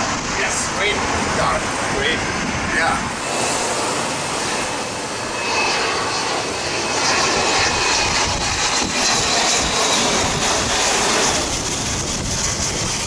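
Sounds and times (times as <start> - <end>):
jet engine rushing noise: 0.0 - 13.0
thin high jet whine: 0.0 - 13.0.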